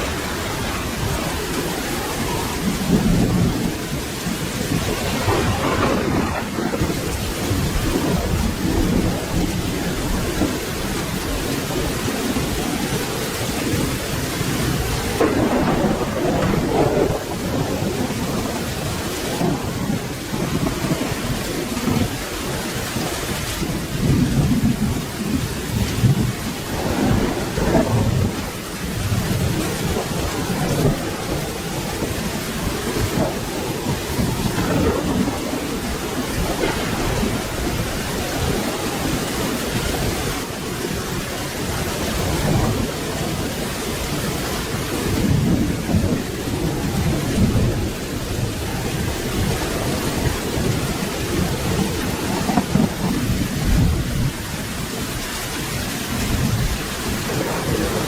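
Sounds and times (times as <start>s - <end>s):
steady rain: 0.0s - 58.0s
thunder rumbling: 0.0s - 58.0s.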